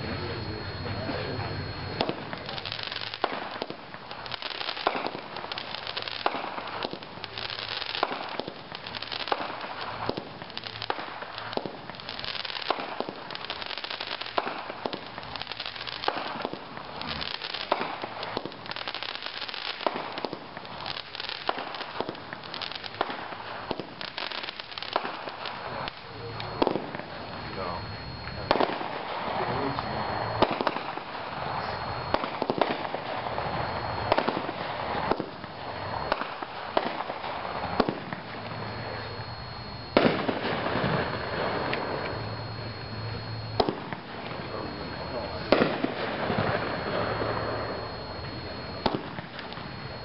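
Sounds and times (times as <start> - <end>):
fireworks crackling: 0.0 - 50.0
fireworks shots firing: 0.0 - 50.0.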